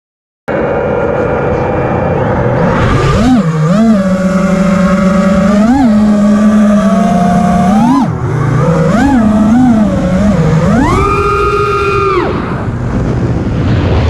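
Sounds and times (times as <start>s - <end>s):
quadcopter motors whining: 1.1s - 12.8s.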